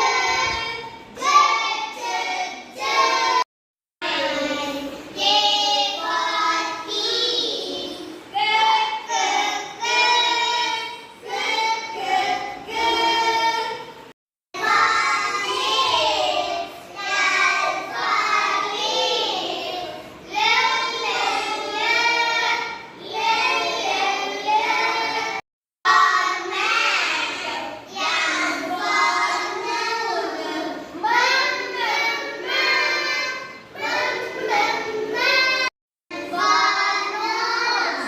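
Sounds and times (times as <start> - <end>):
young children singing together: 0.0 - 38.0.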